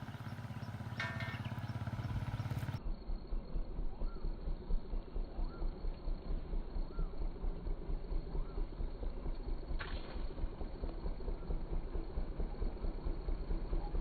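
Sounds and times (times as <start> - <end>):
slowed motorcycle engine throb: 0.0 - 14.0.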